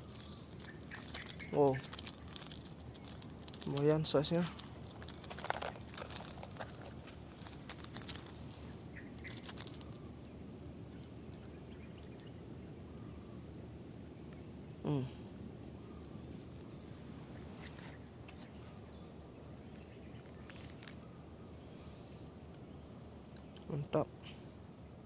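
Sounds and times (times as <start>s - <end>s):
insects shrilling: 0.0s - 25.0s.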